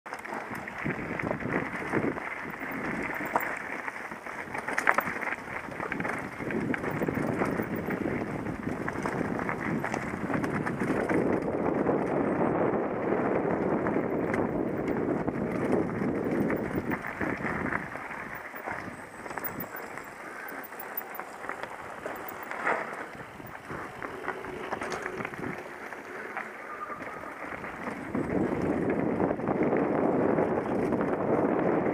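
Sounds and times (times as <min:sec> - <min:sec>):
tyres crunching over stones: 0:00.1 - 0:11.7, 0:14.0 - 0:29.8
bike rattling: 0:00.1 - 0:31.9.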